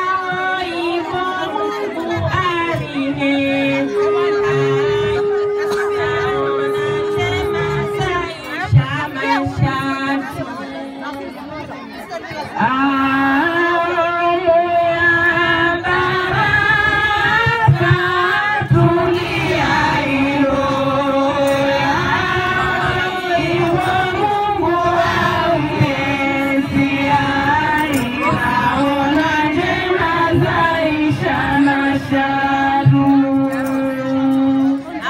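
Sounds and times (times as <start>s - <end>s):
women singing together: 0.0s - 11.2s, 12.4s - 35.0s.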